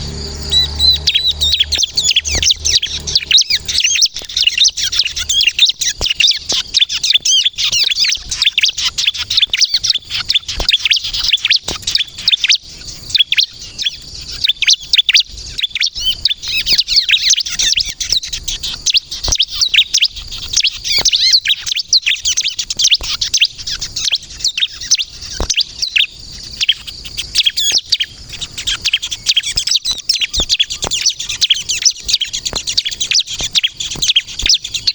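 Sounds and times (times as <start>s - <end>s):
sharp bird clicks: 0.0s - 14.7s, 16.0s - 34.9s
bird chirps and trills: 0.0s - 34.9s.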